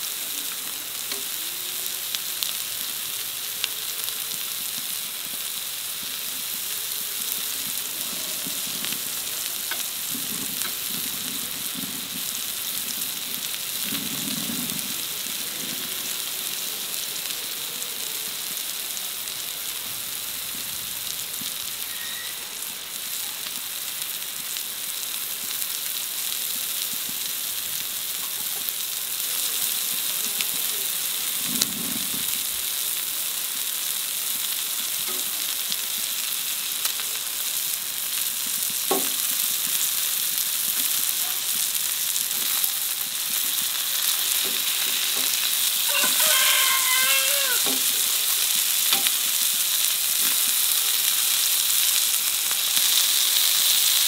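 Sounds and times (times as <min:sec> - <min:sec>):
patties sizzling in oil: 0:00.0 - 0:54.0.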